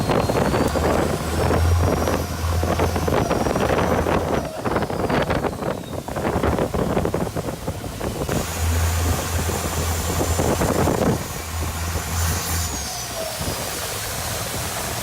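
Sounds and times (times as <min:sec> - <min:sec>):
boat engine humming: 0:00.0 - 0:15.0
rushing water: 0:00.0 - 0:15.0
wind: 0:00.0 - 0:15.0.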